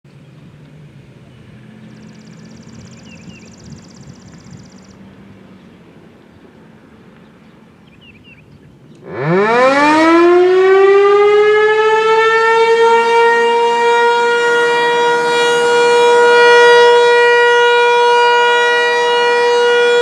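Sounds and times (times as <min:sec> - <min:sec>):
distant engine hum: 0:00.1 - 0:20.0.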